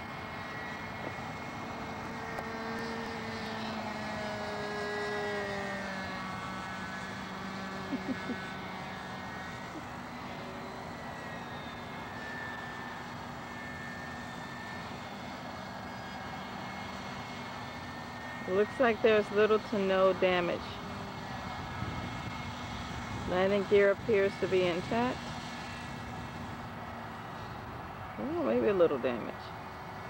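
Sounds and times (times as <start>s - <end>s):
aircraft engine drone: 0.0s - 30.0s.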